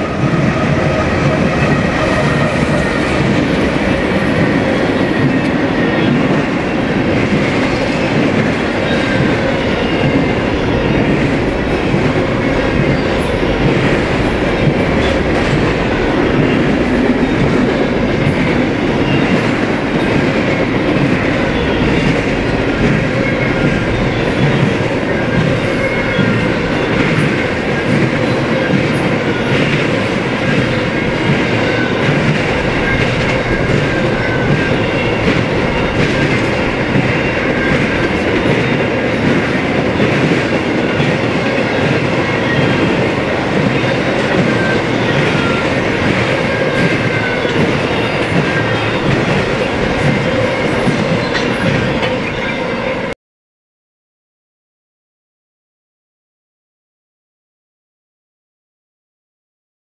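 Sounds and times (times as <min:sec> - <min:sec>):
train rumble: 0:00.0 - 0:53.2.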